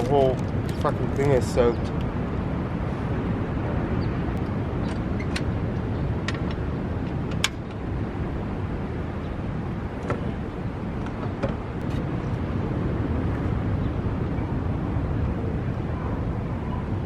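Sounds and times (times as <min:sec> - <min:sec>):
low rushing background: 0:00.0 - 0:17.0.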